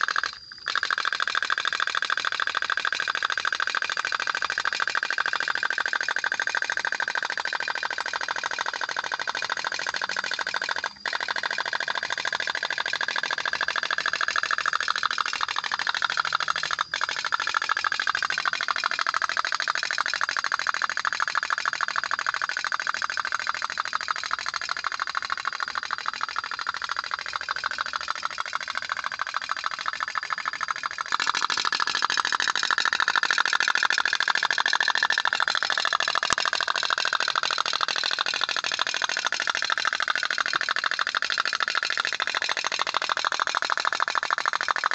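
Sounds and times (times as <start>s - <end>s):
toy steam boat putt-putt: 0.0s - 44.9s.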